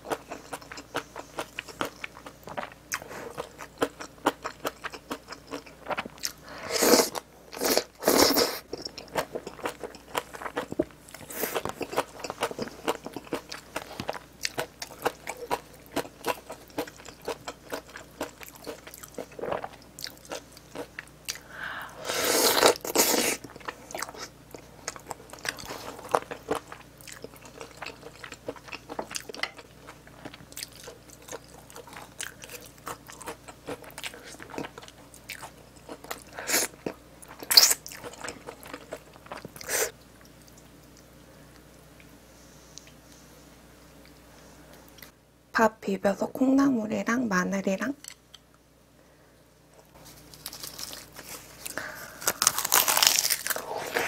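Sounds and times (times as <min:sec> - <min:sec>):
person chewing and crunching food: 0:00.0 - 0:42.1, 0:49.9 - 0:54.0.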